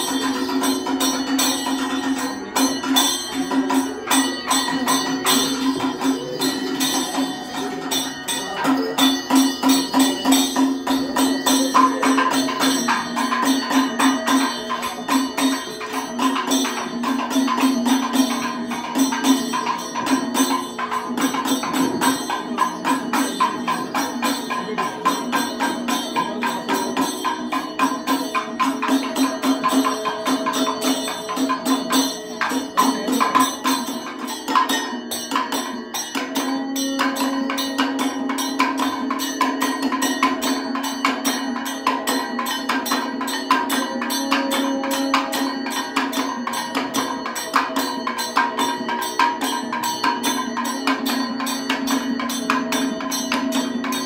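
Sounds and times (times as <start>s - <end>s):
drums: 0.0s - 54.0s
hand cymbals: 0.0s - 54.0s
small gong: 0.0s - 54.0s.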